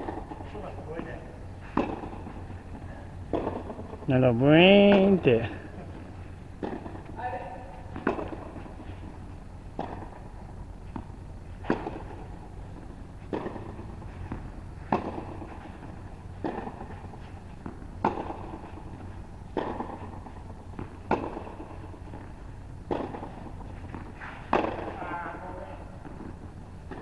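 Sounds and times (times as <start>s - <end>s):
tennis balls struck by rackets: 0.0s - 27.0s.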